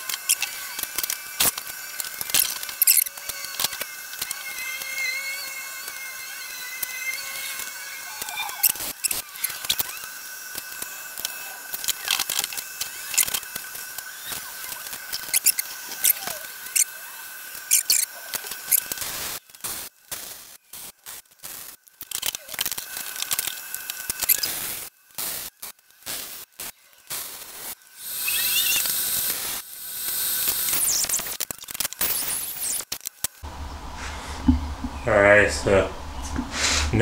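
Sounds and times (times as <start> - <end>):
welding arc crackling: 0.0 - 33.6.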